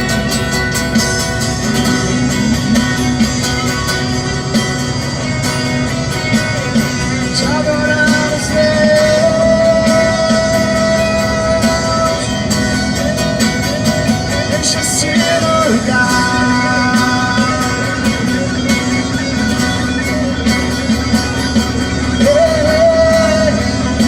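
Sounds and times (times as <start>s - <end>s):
band playing worship music: 0.0s - 24.0s
guitar: 0.0s - 24.0s.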